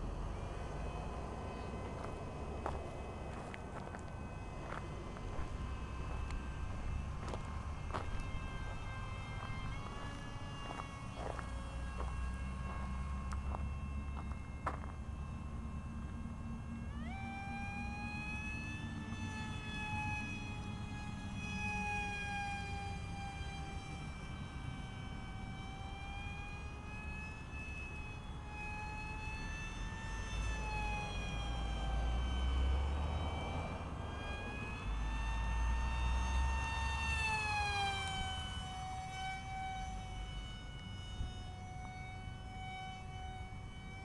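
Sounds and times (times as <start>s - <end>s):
model airplane motor whining: 0.0s - 44.0s.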